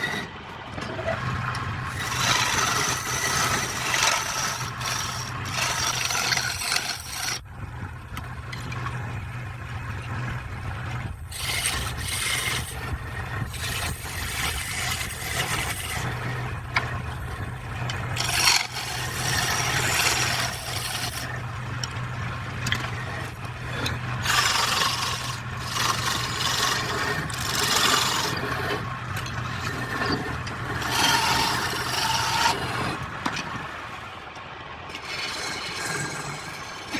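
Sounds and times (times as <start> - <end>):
wood lathe motor hum: 0.0 - 0.4, 1.5 - 7.4, 10.5 - 33.0, 34.9 - 36.9
tool scraping spinning wood: 0.0 - 7.5, 8.5 - 34.0, 34.9 - 36.9.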